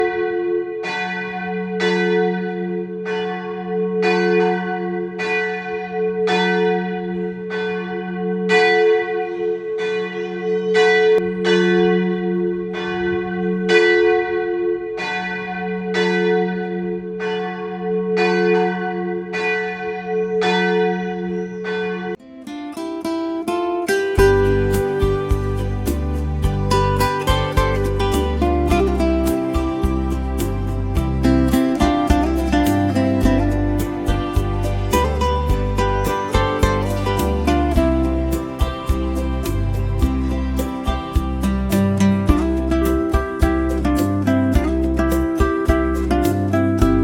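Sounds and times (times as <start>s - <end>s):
acoustic guitar music: 0.0s - 19.3s, 21.4s - 47.0s
church bell ringing: 0.0s - 25.6s, 26.7s - 39.8s.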